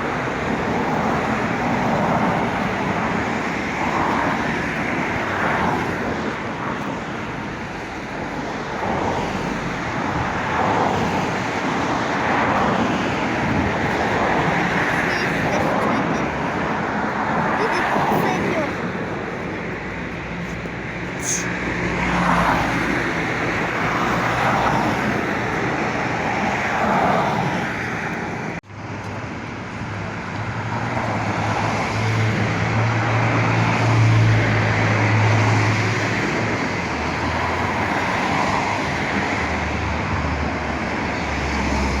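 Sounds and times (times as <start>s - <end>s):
passing vehicles: 0.0s - 42.0s.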